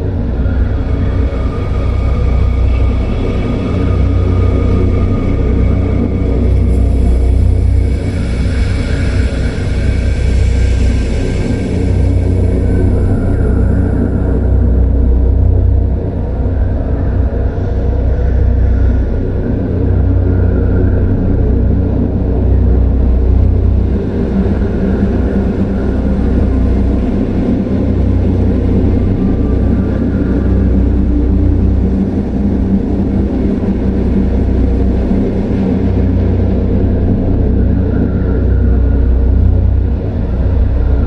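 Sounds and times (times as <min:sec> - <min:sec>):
deep rumble and low drone: 0:00.0 - 0:41.0.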